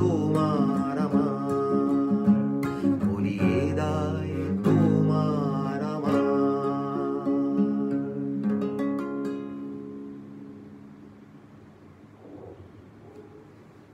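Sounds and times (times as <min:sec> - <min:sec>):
classical guitar strumming: 0:00.0 - 0:11.5.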